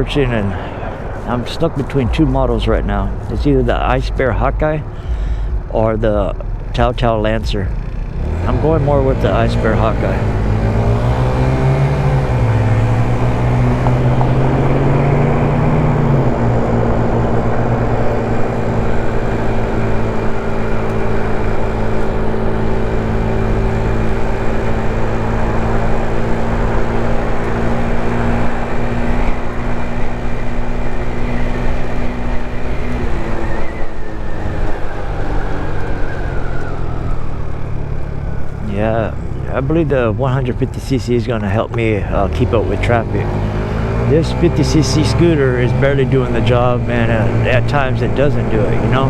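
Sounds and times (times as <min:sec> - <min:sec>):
scooter engine running: 0:00.0 - 0:49.0.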